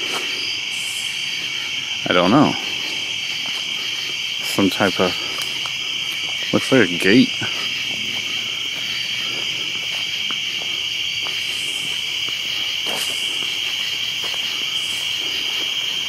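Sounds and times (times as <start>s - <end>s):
crickets chirring: 0.0s - 16.0s
footsteps crunching on path: 0.0s - 16.0s.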